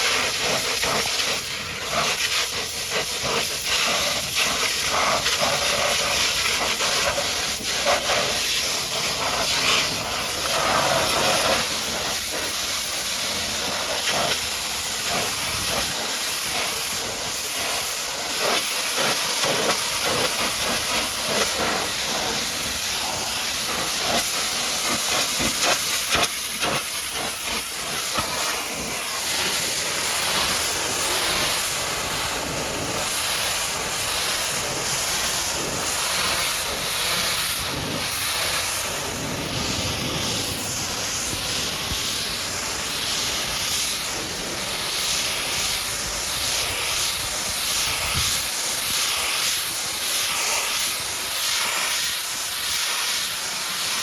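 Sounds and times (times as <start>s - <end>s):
pressure washer jet hissing: 0.0s - 54.0s.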